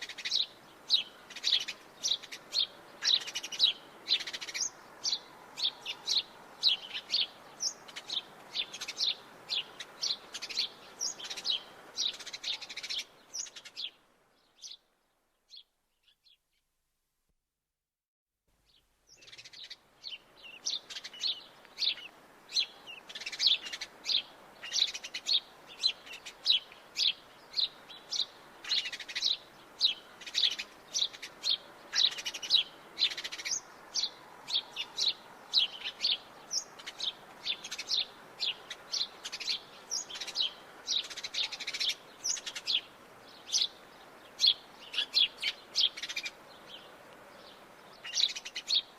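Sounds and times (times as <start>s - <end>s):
sparrows chirping: 0.0s - 16.5s, 18.7s - 48.9s
faint steady background hiss: 0.0s - 17.4s, 18.5s - 48.9s.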